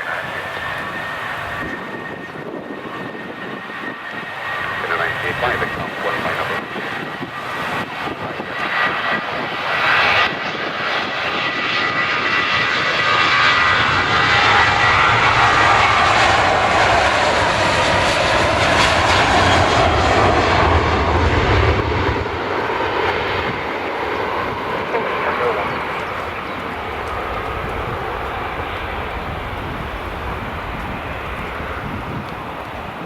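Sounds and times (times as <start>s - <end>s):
airliner engines roaring: 0.0s - 33.0s.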